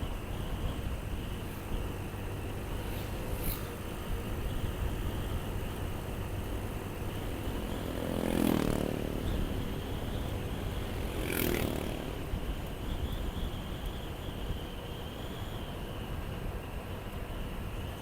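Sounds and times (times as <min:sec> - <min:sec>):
motorcycle engine rumble: 0:00.0 - 0:17.7
vehicles passing close: 0:00.0 - 0:18.0.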